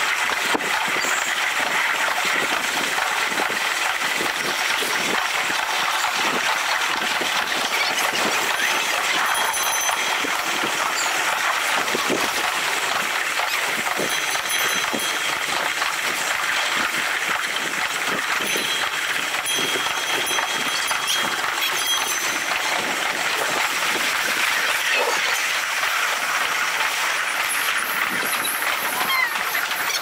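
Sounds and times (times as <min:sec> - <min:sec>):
train rumbling on jointed track: 0:00.0 - 0:30.0.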